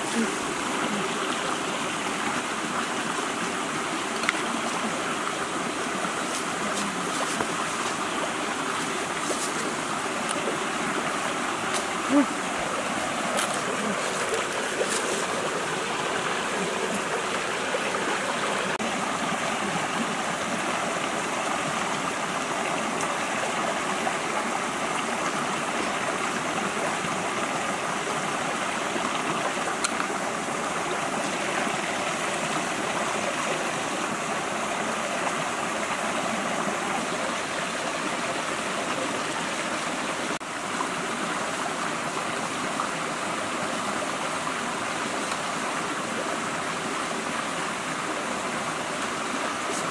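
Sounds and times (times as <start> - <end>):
stream water rushing and babbling: 0.0 - 49.9.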